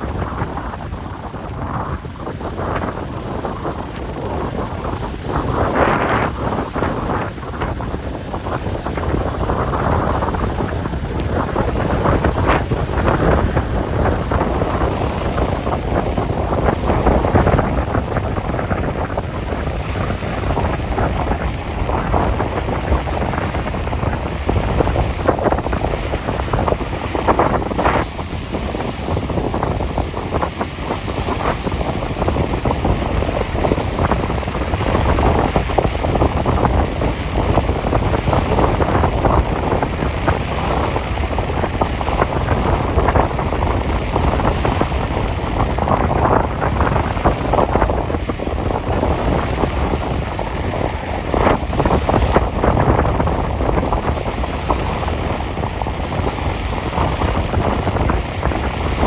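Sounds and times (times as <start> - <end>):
waves washing on lake: 0.0 - 59.0
wind buffeting microphone: 0.0 - 59.0.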